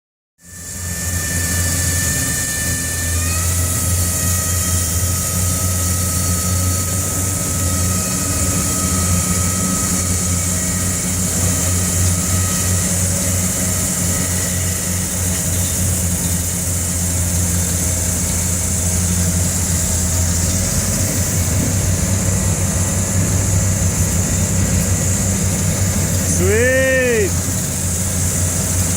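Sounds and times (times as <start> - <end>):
wire saw cutting concrete: 0.4 - 28.9.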